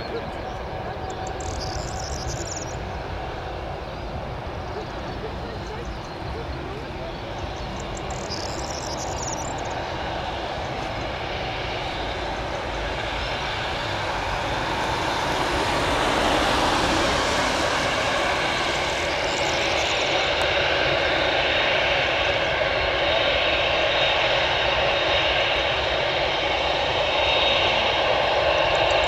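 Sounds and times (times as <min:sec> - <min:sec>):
jet engines taking off: 0:00.0 - 0:29.0.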